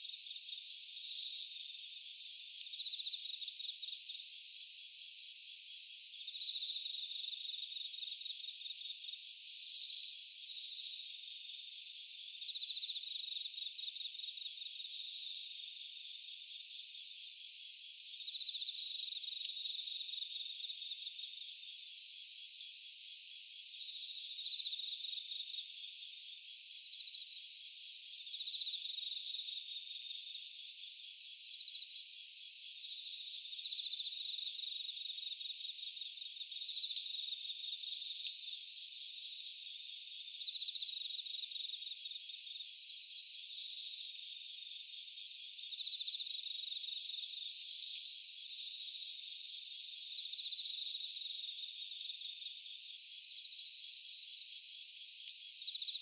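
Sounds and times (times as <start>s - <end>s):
high steady insect trill: 0.0s - 56.0s
pulsed cricket chirps: 0.0s - 56.0s.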